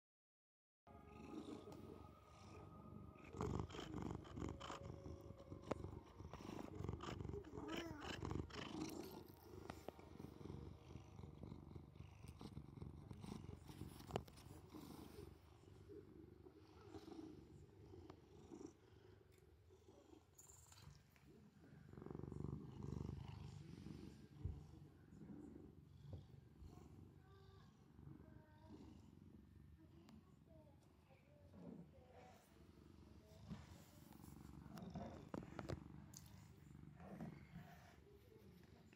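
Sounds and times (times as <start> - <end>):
cat purring: 0.9 - 38.9.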